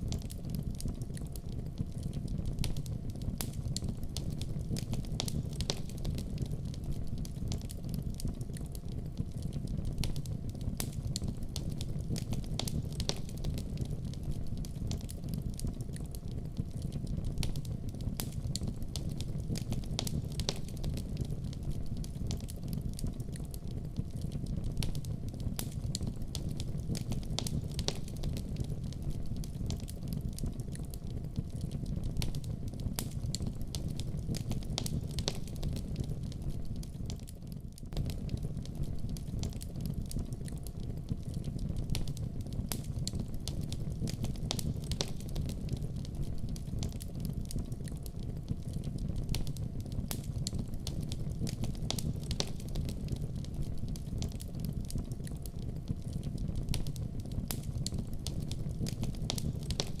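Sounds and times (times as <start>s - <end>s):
fire crackling and popping: 0.0s - 60.0s
fire flames rumbling: 0.0s - 60.0s.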